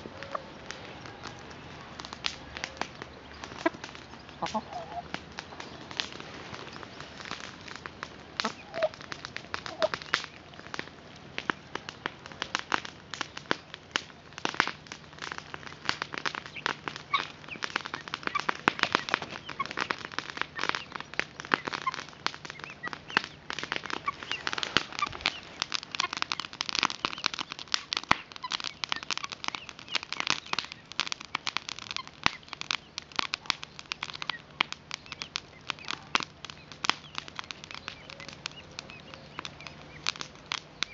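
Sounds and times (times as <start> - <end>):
beaks pecking on dirt: 0.0 - 40.9.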